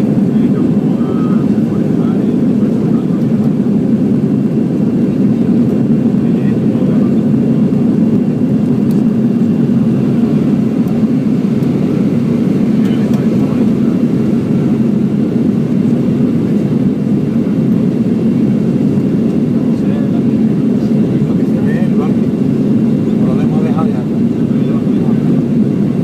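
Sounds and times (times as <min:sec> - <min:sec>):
airliner engine rush: 0:00.0 - 0:26.0.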